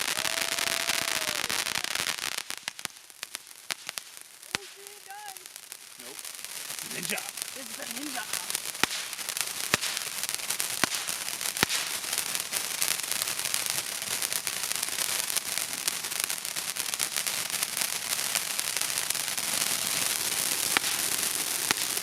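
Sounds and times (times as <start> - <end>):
crackling fireworks: 0.0 - 22.0
loud sharp firework bangs: 0.0 - 22.0.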